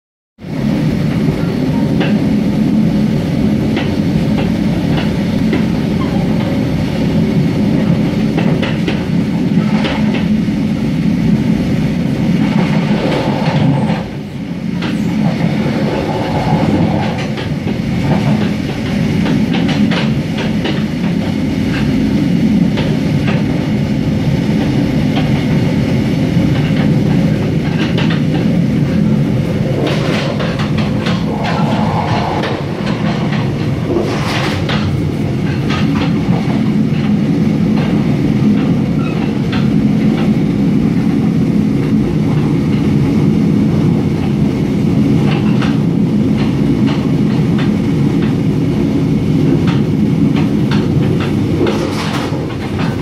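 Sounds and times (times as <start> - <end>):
train wheels rumbling on rails: 0.4 - 53.0
rail joint clicks: 0.5 - 53.0.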